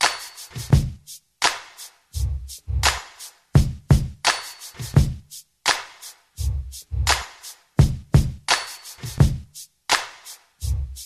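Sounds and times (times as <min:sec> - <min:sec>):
hip hop drum machine beat: 0:00.0 - 0:11.0.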